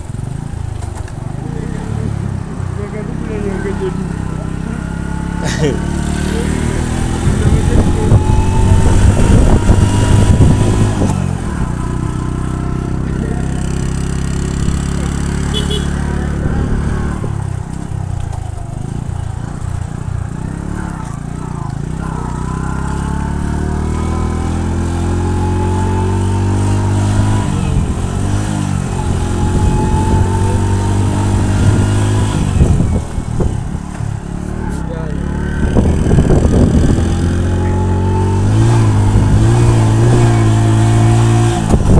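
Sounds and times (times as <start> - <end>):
motorcycle engine running: 0.0 - 41.9
rough buffeting noise: 0.0 - 41.9.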